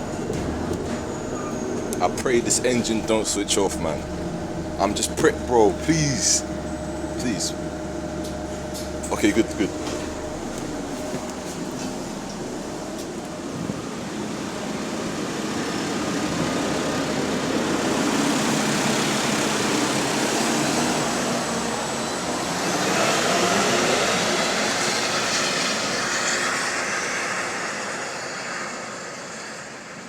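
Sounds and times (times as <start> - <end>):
engine cooling fan roaring: 0.0 - 30.0.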